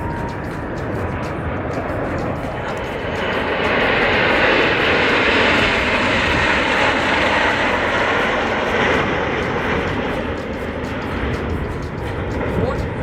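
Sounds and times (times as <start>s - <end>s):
jet engines flying overhead: 0.0s - 13.0s.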